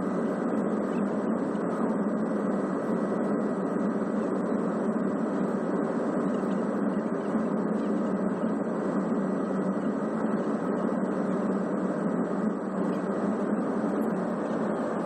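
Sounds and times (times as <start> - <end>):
jet engine and airflow noise: 0.0 - 15.0.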